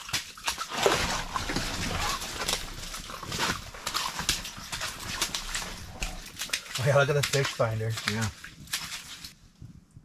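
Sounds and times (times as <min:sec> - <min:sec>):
water splashing: 0:00.0 - 0:09.4
rustling and scraping: 0:00.6 - 0:09.8.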